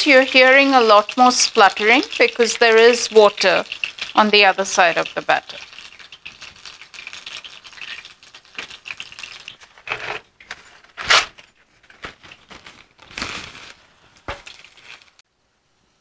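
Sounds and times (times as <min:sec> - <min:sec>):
onion rings deep-frying in oil: 0:00.0 - 0:15.2.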